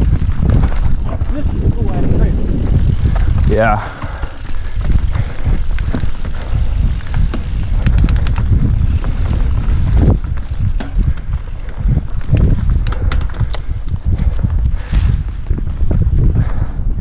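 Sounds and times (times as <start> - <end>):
tyres rumbling on dirt: 0.0 - 15.8
bike clicks and rattles: 0.0 - 17.0
wind buffeting on microphone: 0.0 - 17.0.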